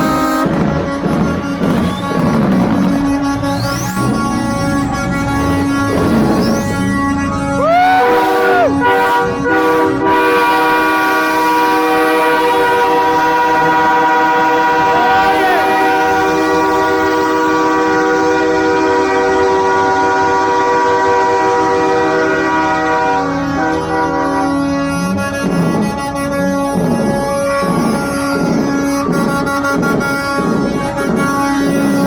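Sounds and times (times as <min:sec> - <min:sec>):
horn sliding in pitch: 0:00.0 - 0:32.0
truck air horns blaring: 0:00.0 - 0:32.0.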